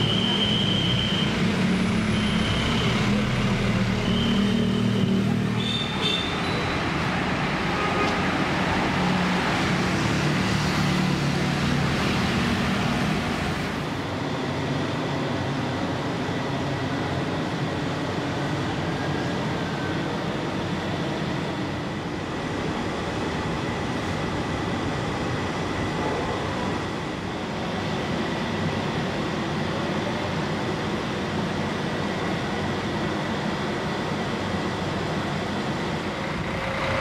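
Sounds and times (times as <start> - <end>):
bus diesel engine running: 0.0 - 14.4, 16.6 - 37.0
road traffic noise: 0.0 - 37.0.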